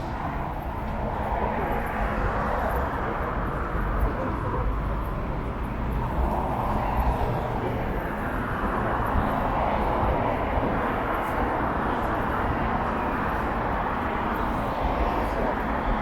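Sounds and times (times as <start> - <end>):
passing traffic: 0.0 - 16.0.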